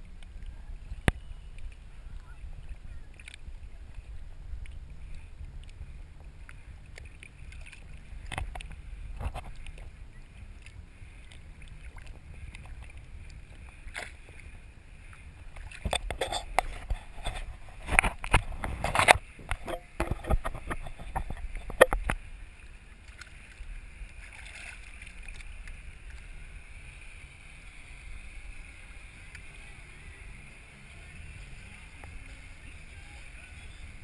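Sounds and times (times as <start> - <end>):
muffled low rumble: 0.0 - 34.0
waves lapping against boat hull: 0.0 - 34.0.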